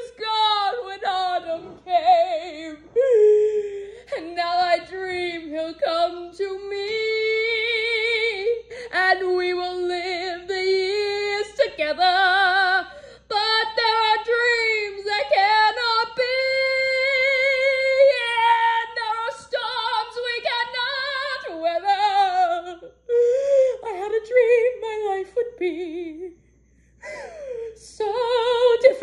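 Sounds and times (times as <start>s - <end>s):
woman singing unaccompanied: 0.0s - 26.3s, 27.6s - 29.0s.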